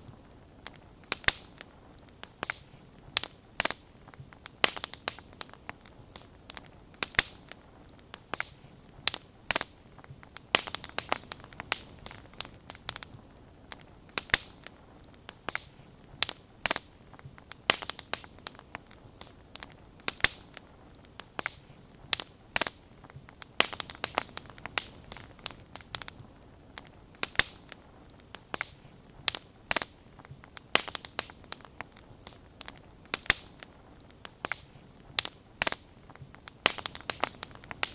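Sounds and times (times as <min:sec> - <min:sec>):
faint hiss: 0:00.0 - 0:37.9
wood fire crackling and popping: 0:00.0 - 0:37.9.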